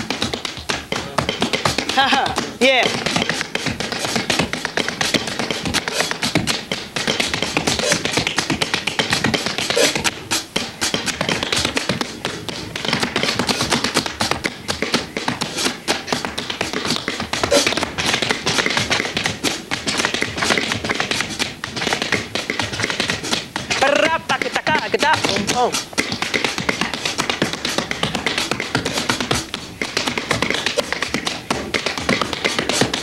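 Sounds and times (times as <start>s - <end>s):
drumming: 0.0s - 33.0s
tap shoes on wooden floor: 0.0s - 33.0s.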